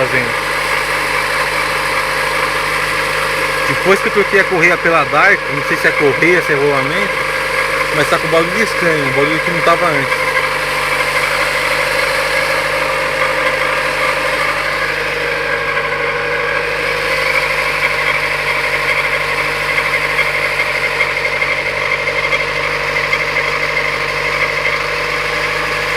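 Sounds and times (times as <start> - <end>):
car engine idling: 0.0 - 25.9
steady engine whine: 0.0 - 25.9.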